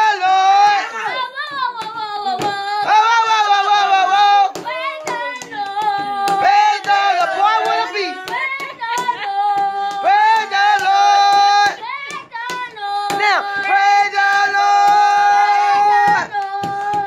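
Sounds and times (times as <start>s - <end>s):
hand claps: 0.0s - 17.0s.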